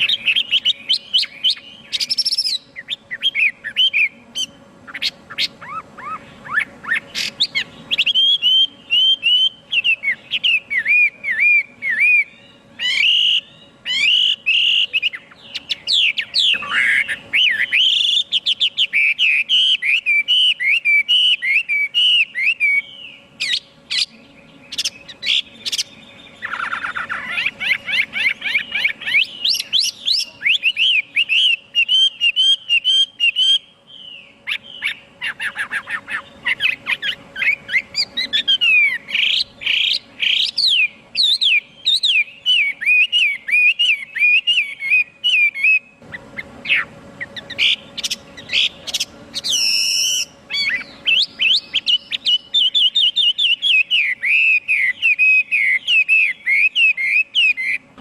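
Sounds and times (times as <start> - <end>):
bird singing whistled notes: 0.0 - 57.9.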